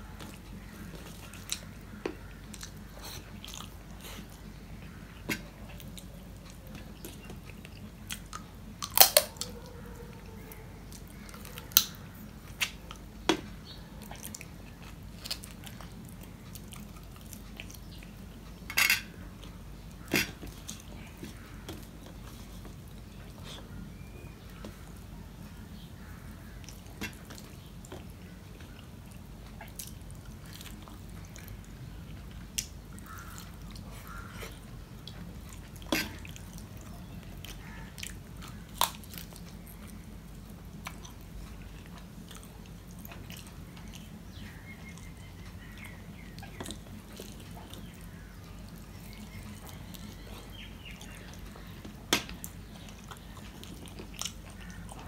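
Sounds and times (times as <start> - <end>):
steady low hum: 0.0 - 55.0
wet chewing: 0.0 - 55.0.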